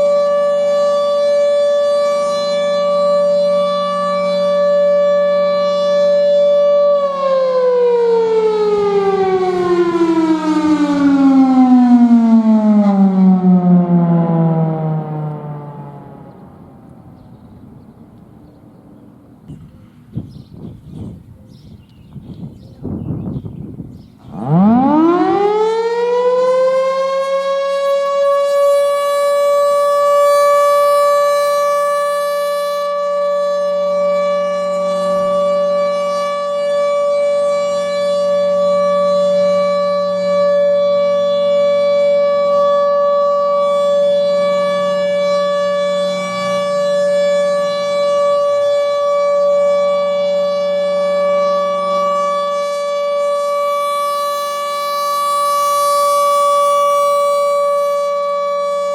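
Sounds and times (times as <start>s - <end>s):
warning siren high tone: 0.0s - 19.6s, 22.6s - 58.9s.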